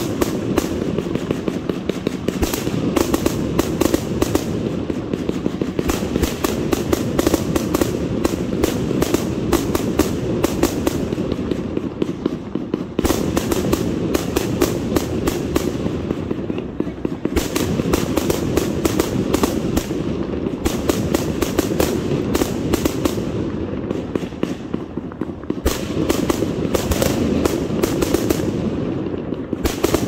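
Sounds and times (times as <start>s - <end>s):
fireworks thumps and cracks: 0.0s - 30.0s.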